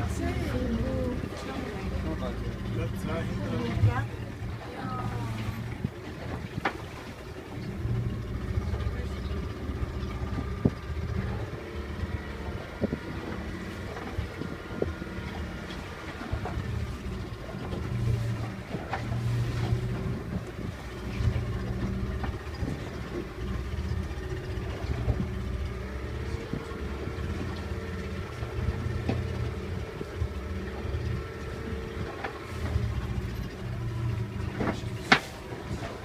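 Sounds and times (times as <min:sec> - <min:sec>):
boat engine rumble: 0:00.0 - 0:36.0.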